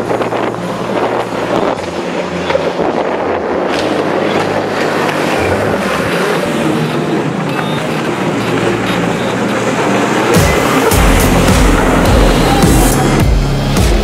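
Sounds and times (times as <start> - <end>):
jet ski engine passing: 0.0 - 13.8.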